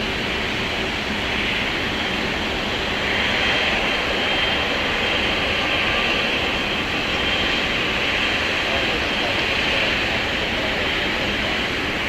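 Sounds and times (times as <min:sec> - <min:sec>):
jet engines taxiing: 0:00.0 - 0:12.0.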